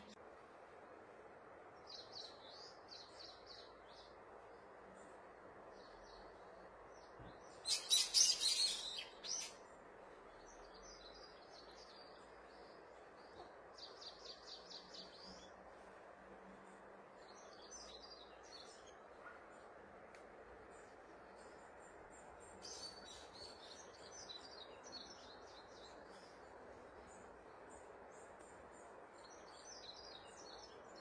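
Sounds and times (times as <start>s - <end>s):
steady background hiss: 0.0s - 31.0s
birds chirping: 1.8s - 31.0s.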